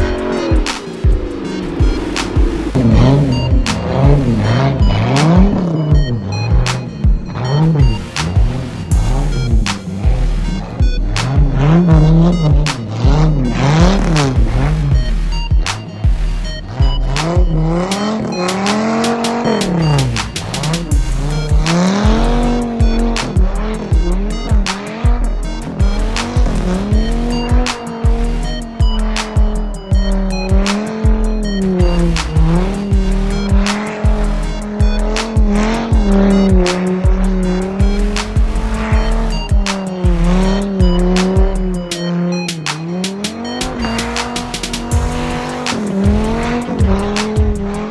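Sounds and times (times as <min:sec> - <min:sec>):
car engine revving: 0:00.0 - 0:47.9
music with thumping beat: 0:00.0 - 0:47.9.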